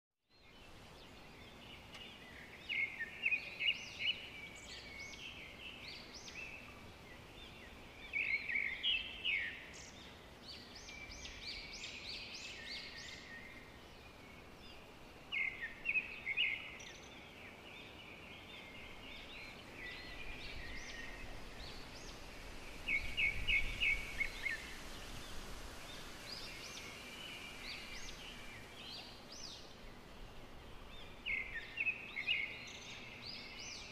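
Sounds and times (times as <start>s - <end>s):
birds chirping and singing: 0.3s - 30.0s, 30.6s - 33.9s
outdoor ambience hiss: 0.3s - 33.9s.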